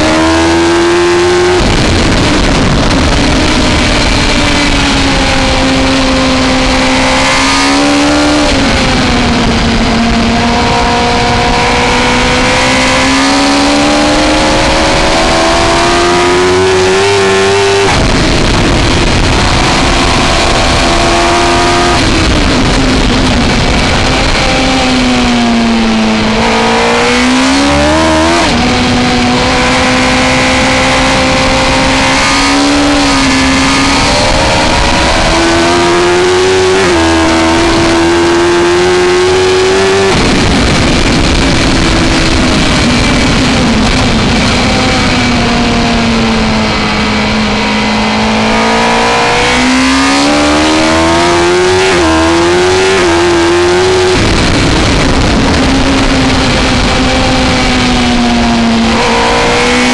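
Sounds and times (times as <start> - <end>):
heavy wind rush: 0.0 - 59.9
motorcycle engine racing at high revs: 0.0 - 59.9.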